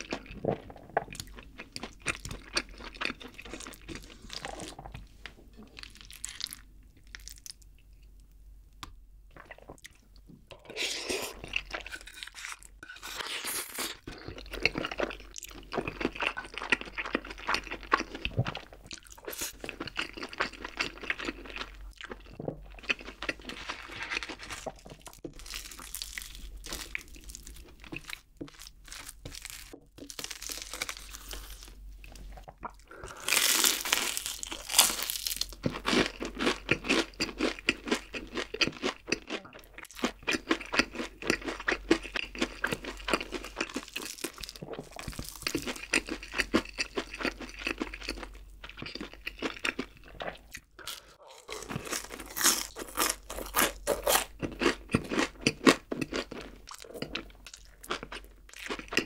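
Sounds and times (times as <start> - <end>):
chewing and crunching fried food: 0.0 - 8.4, 9.3 - 59.0.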